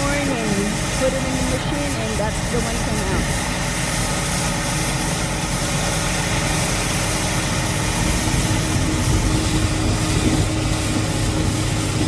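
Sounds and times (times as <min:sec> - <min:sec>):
harvester engine humming: 0:00.0 - 0:12.0.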